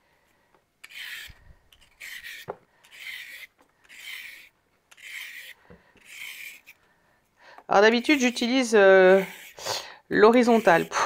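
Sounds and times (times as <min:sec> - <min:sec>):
peeler scraping carrot: 0:00.8 - 0:06.8, 0:07.7 - 0:11.0.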